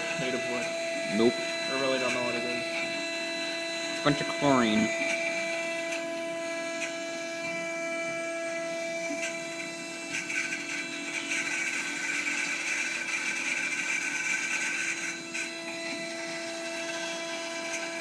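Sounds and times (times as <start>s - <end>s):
mill spindle whining: 0.0s - 18.0s
rough metal cutting noise: 0.0s - 18.0s.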